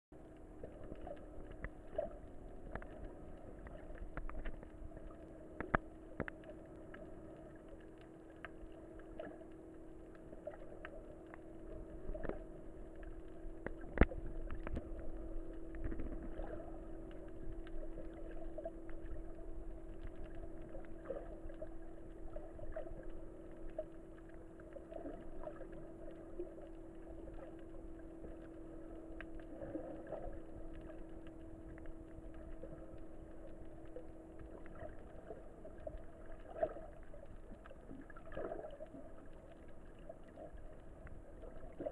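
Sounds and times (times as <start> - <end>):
muffled underwater hum: 0.2 - 41.9.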